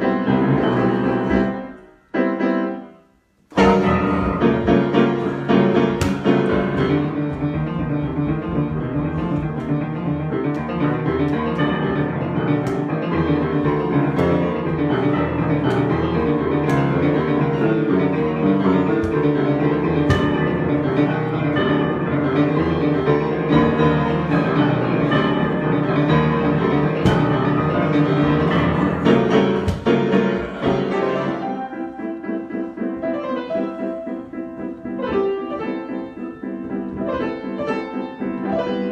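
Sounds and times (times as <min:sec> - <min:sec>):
solo piano: 0:00.0 - 0:38.9.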